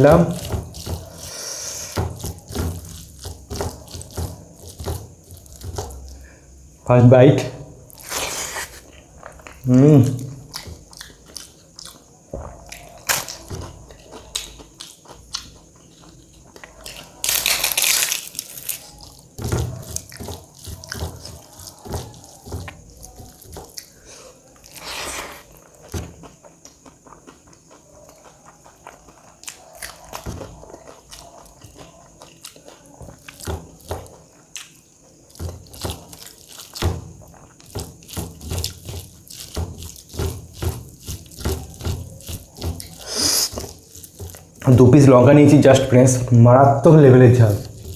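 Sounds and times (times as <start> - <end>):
person chewing food: 0.0 - 6.6, 7.9 - 45.6, 47.4 - 47.9.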